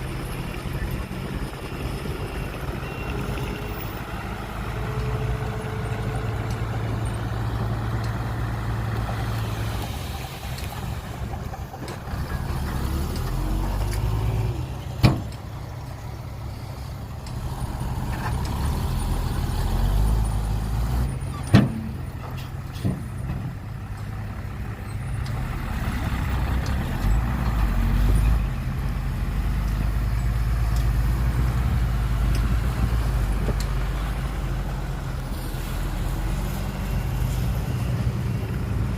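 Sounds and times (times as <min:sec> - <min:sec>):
heavy diesel engines rumbling: 0:00.0 - 0:38.9.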